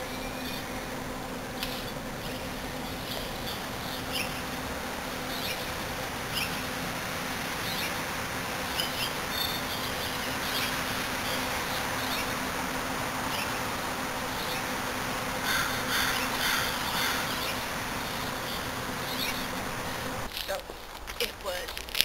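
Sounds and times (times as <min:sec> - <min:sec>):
small birds chirping: 0:00.0 - 0:20.6
steady low hum: 0:00.0 - 0:21.9.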